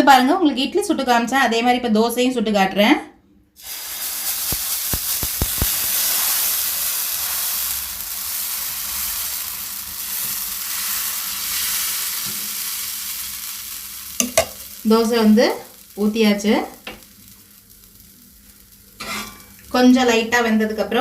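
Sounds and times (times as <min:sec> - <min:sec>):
batter sizzling on a griddle: 0:03.6 - 0:21.0.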